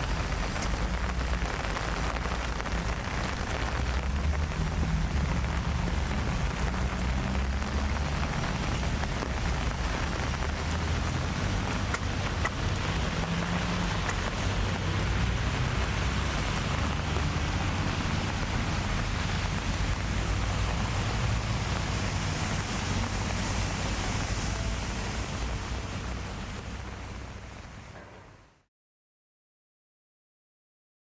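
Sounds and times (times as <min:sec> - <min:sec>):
outdoor ambient rumble: 0:00.0 - 0:28.7.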